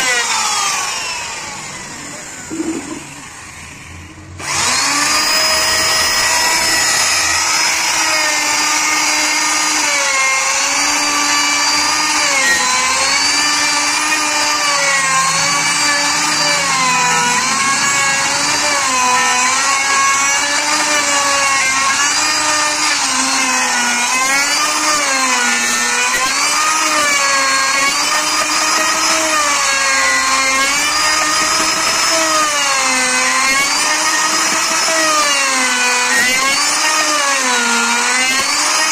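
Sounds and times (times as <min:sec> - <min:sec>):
router motor whine cutting wood: 0:00.0 - 0:38.9.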